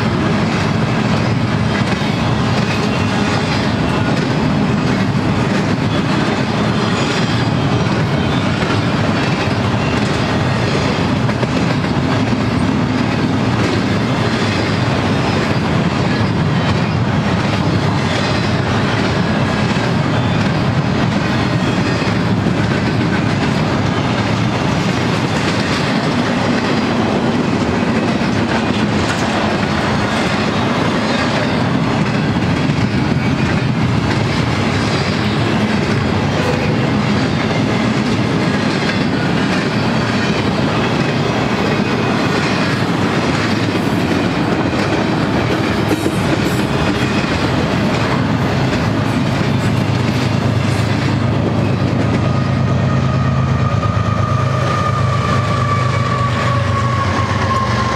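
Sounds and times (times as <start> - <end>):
diesel locomotive drone: 0.0 - 57.9
train wheels clattering on rails: 0.0 - 57.9.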